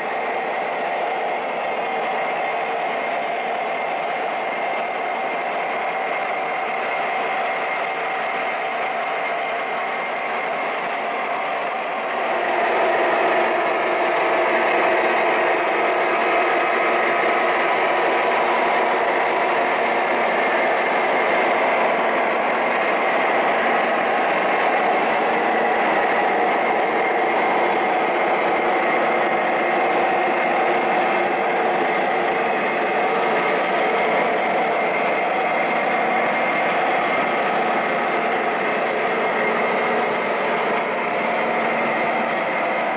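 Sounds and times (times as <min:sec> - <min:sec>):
model train diesel engine sounds: 0:00.0 - 0:42.9.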